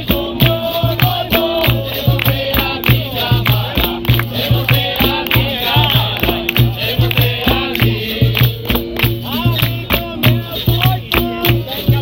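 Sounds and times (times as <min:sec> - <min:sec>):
pandeiro and drum beat: 0:00.0 - 0:12.0
voices singing: 0:00.0 - 0:12.0.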